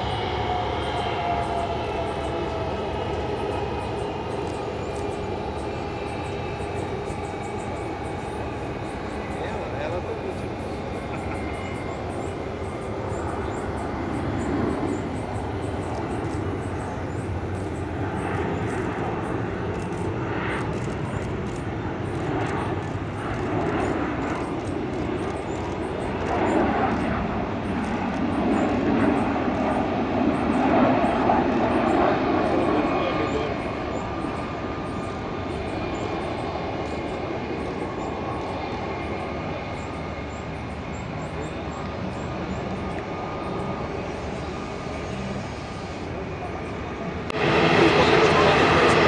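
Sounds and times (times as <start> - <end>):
jet engines rumbling and whining: 0.0 - 49.0.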